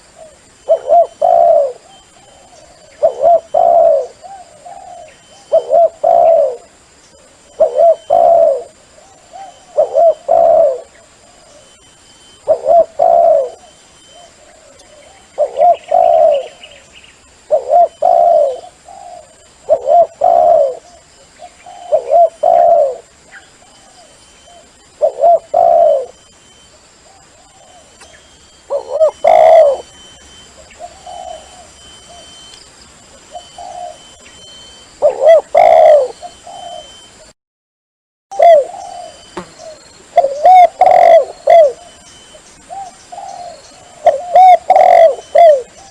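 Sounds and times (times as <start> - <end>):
dove cooing: 0.0 - 26.3, 27.1 - 32.6, 33.2 - 37.3, 38.3 - 45.9.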